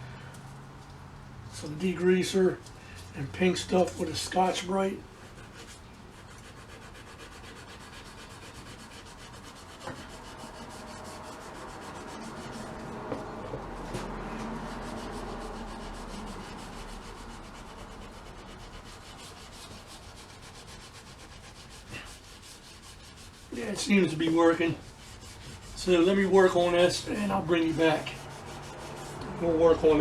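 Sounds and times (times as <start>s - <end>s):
scrub pad rubbing on metal: 3.3s - 30.0s.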